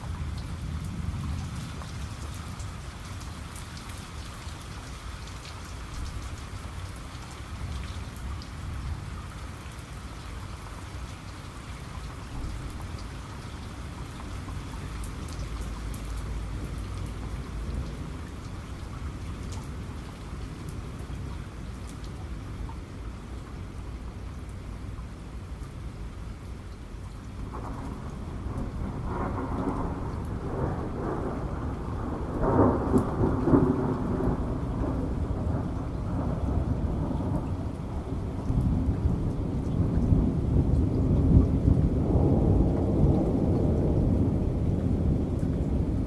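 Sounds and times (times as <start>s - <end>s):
raindrops ticking: 0.0s - 25.8s, 26.5s - 46.0s
heavy rain: 0.0s - 46.0s.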